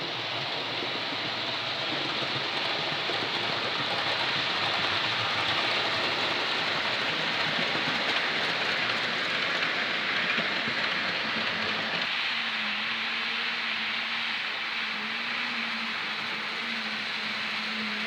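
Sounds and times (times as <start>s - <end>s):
model locomotive whirring on track: 0.0s - 18.0s.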